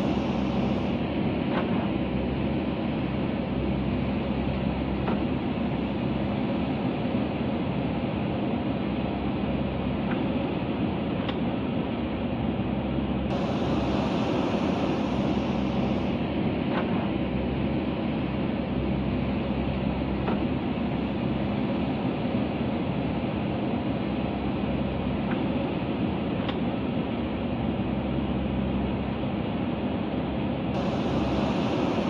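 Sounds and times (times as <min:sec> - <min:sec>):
diesel engine under load: 0:00.0 - 0:32.0.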